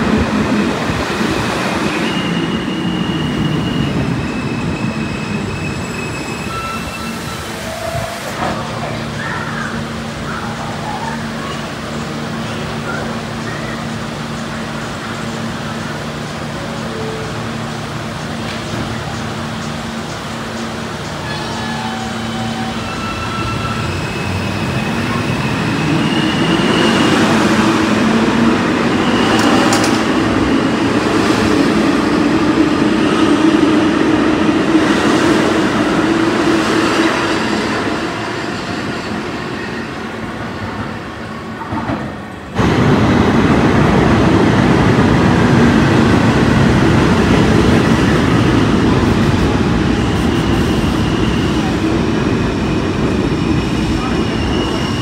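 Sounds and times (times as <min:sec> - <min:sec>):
subway train motor whine: 0:00.0 - 0:55.0
subway train running: 0:00.0 - 0:55.0.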